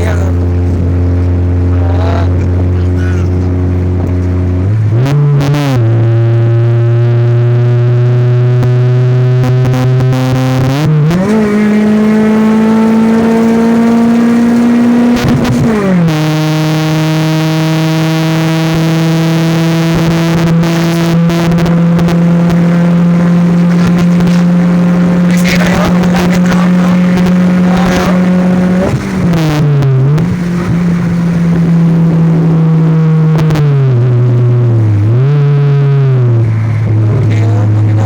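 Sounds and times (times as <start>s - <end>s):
sports car engine held at revs: 0.0s - 38.0s.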